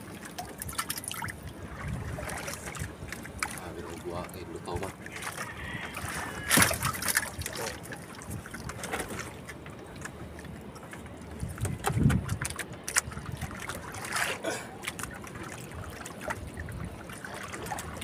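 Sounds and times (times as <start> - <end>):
water lapping against boat: 0.0 - 18.0.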